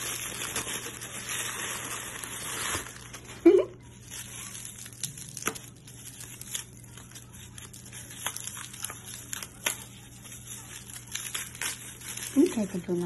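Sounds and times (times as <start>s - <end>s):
bubble wrap crackles: 0.0s - 13.0s
bubble wrap crinkling: 0.0s - 13.0s.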